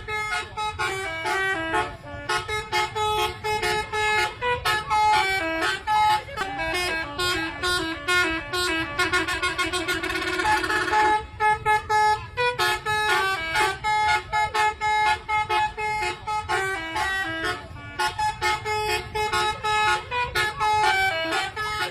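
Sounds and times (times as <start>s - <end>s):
multi-tone musical air horn: 0.0s - 21.9s.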